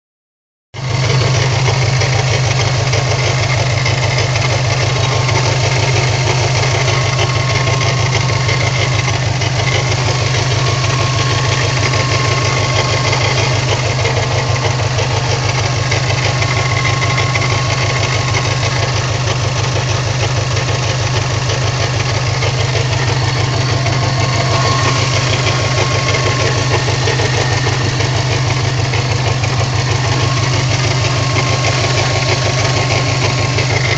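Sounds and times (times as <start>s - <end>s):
engine running: 0.8s - 33.9s
rapid engine ticking: 0.8s - 33.9s.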